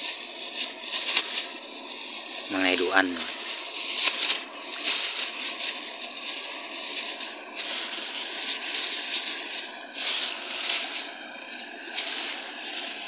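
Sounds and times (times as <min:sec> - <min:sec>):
stream water over rocks: 0:00.0 - 0:13.0.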